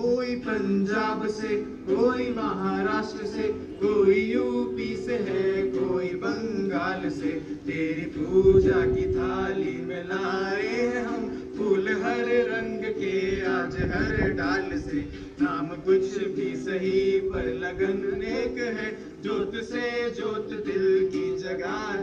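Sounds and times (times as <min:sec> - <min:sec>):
men singing together: 0:00.0 - 0:22.0.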